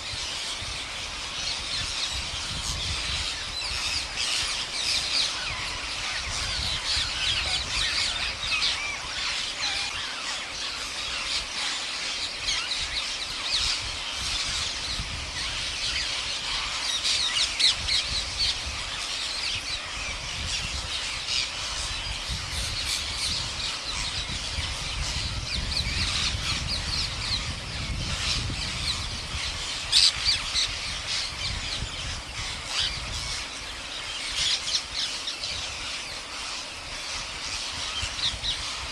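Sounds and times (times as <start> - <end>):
parakeets screeching: 0.0 - 38.9.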